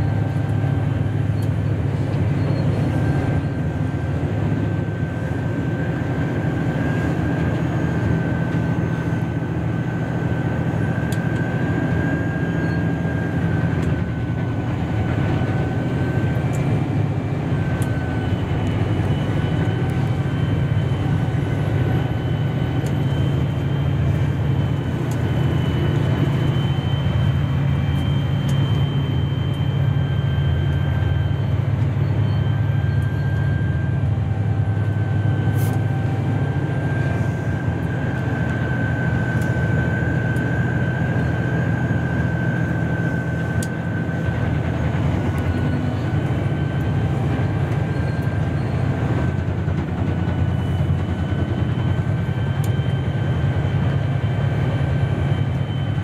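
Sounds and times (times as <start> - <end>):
high whine: 0.0 - 56.0
wood chipper engine drone: 0.0 - 56.0.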